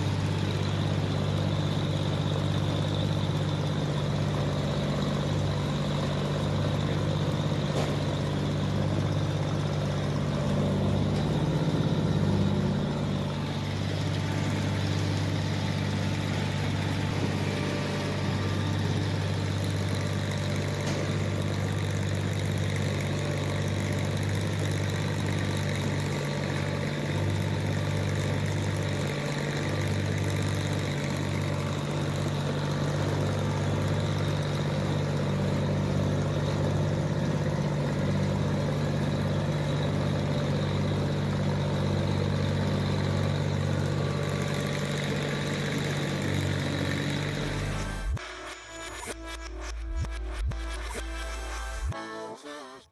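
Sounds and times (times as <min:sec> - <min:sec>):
harvester engine droning: 0:00.0 - 0:52.0.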